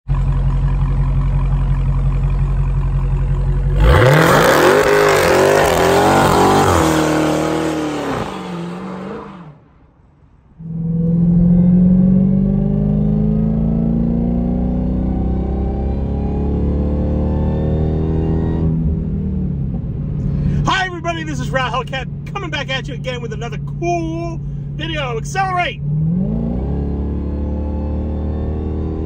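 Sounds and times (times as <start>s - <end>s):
engine running with climbing pitch: 0.1s - 9.6s, 10.6s - 29.0s
car engine revving: 0.2s - 9.8s, 10.6s - 29.0s.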